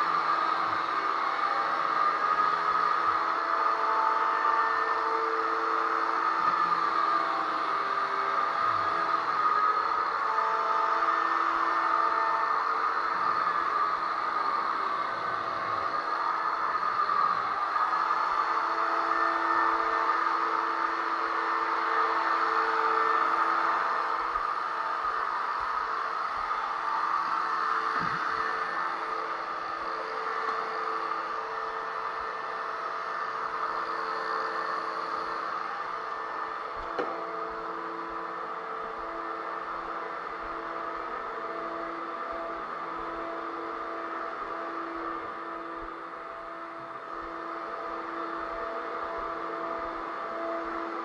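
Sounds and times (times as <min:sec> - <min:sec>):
drywall sanding whirring hiss: 0:00.0 - 0:51.0.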